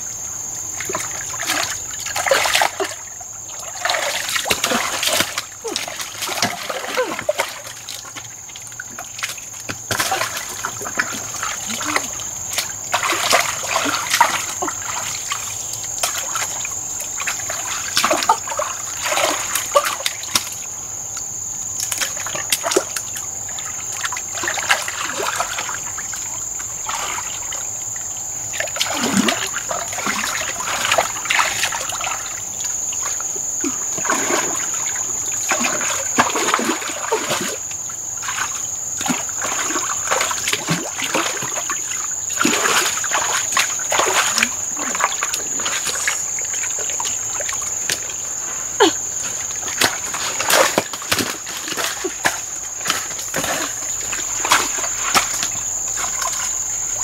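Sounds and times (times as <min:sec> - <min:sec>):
water trickling: 0:00.1 - 0:57.0
splashing muddy water: 0:00.6 - 0:57.0.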